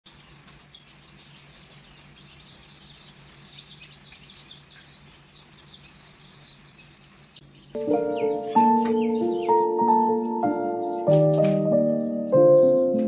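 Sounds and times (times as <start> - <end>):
chicks peeping: 0.1 - 13.0.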